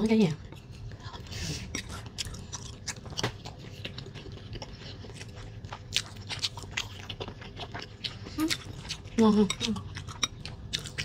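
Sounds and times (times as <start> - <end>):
chewing food: 0.0 - 11.0.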